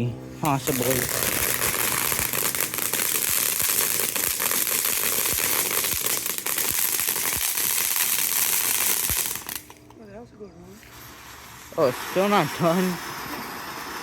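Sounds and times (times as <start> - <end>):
firework hissing and crackling: 0.4 - 9.9, 10.6 - 14.0.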